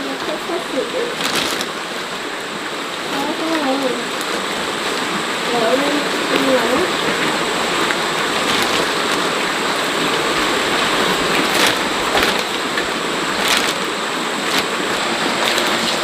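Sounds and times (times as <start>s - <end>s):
raindrops tapping: 0.0s - 16.0s
steady rain hiss: 0.0s - 16.0s.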